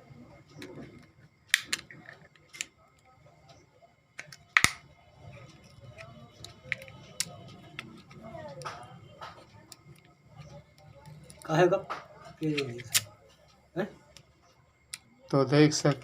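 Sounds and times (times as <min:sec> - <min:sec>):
plastic clicks and snaps: 0:00.5 - 0:13.3, 0:14.1 - 0:16.0.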